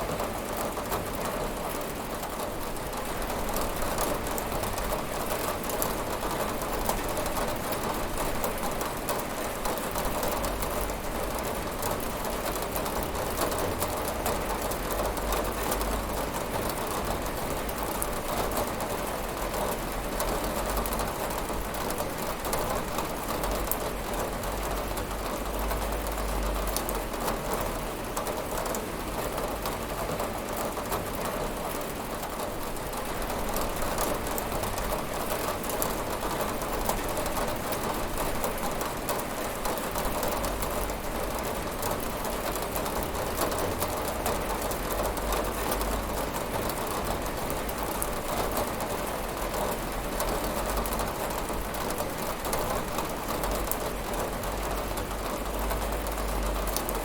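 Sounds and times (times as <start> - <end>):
rain pattering on window: 0.0 - 57.0.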